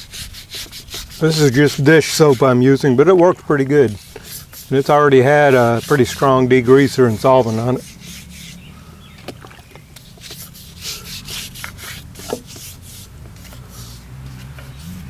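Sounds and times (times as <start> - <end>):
scrubbing strokes: 0.0 - 15.0.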